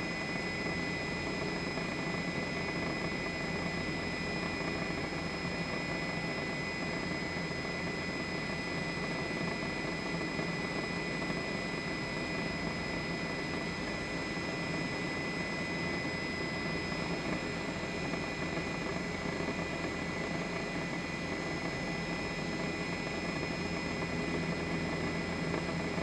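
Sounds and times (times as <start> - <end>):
helicopter rushing and whining: 0.0 - 26.0.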